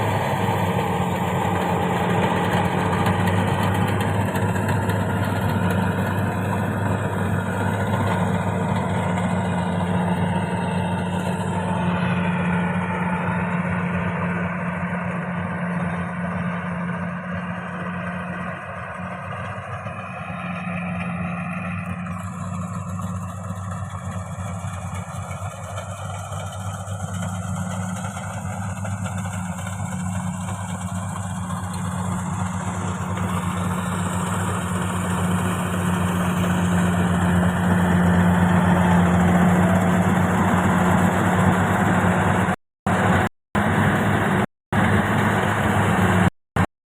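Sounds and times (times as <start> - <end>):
diesel engine droning: 0.0 - 46.7.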